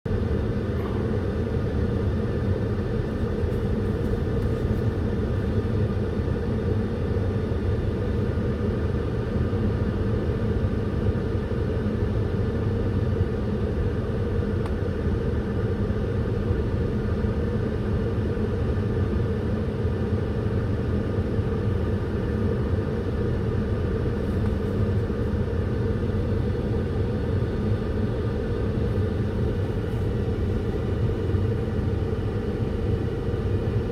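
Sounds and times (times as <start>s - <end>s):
low rumble with droning hum: 0.1s - 33.9s.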